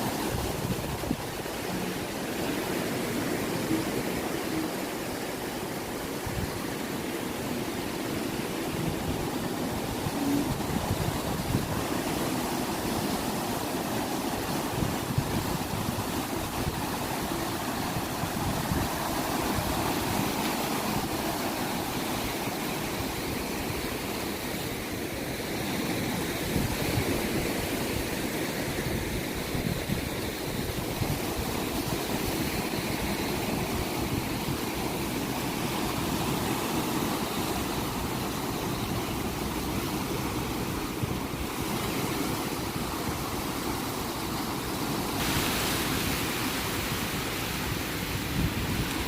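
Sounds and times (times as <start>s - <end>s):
ocean surf washing ashore: 0.0s - 49.0s.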